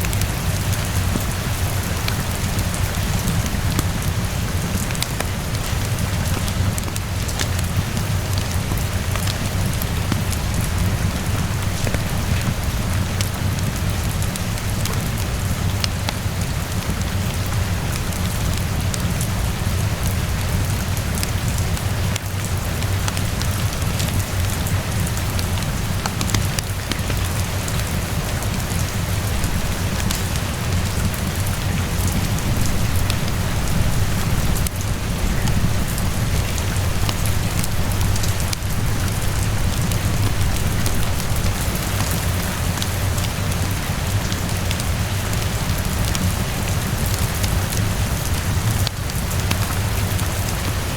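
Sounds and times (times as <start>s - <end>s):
deep constant rumble: 0.0s - 50.9s
steady rainfall: 0.0s - 50.9s
wood fire crackling: 0.0s - 50.9s.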